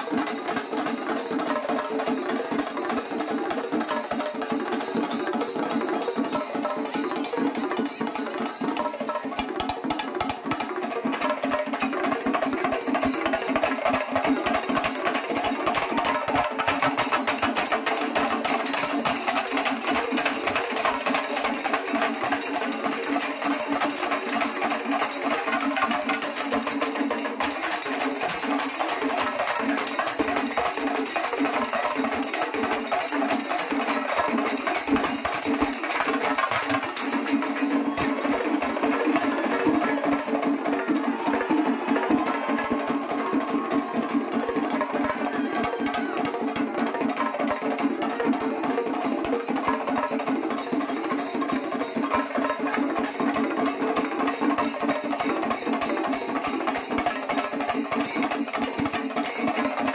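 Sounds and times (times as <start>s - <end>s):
drums playing fast rhythm: 0.0s - 59.9s
hand cymbals: 0.0s - 59.9s.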